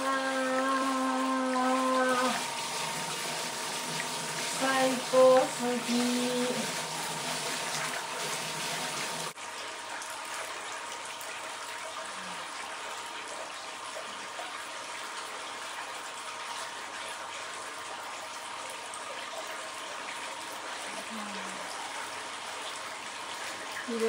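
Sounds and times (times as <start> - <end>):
water pouring and splashing: 0.0 - 24.0.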